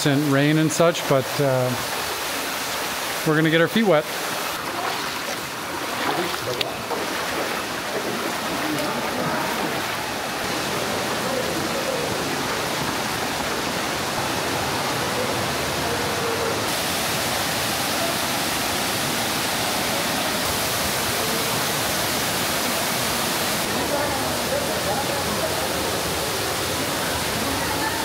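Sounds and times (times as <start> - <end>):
waterfall and stream rushing: 0.0 - 28.0.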